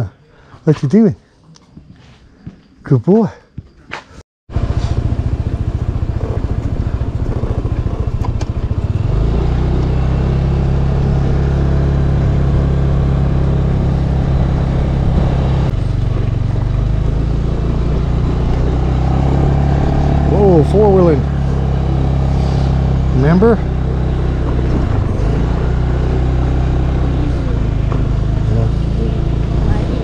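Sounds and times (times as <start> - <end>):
motor scooter engine running: 4.5 - 30.0.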